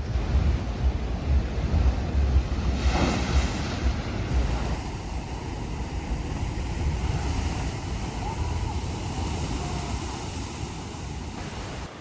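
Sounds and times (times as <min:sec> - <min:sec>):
wind buffeting microphone: 0:00.0 - 0:11.9
ocean surf: 0:00.0 - 0:12.0
wave breaking: 0:00.0 - 0:12.0.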